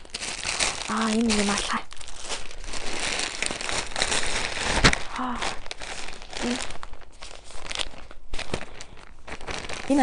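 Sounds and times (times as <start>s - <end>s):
plastic bag crinkling: 0.0s - 10.0s
sharp plastic crackle: 0.0s - 10.0s.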